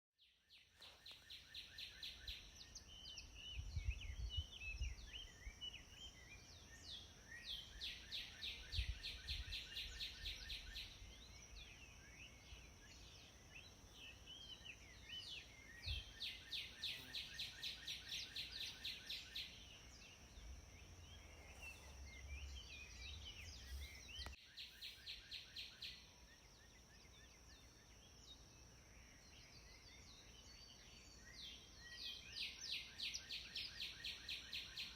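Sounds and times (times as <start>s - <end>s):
songbirds singing: 0.2s - 34.9s
bird chirps: 0.3s - 34.9s.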